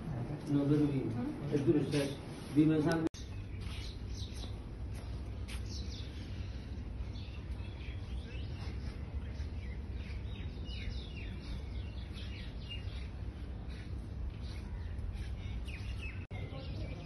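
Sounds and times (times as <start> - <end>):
low outdoor rumble: 0.0 - 17.0
small birds chirping: 3.2 - 17.0.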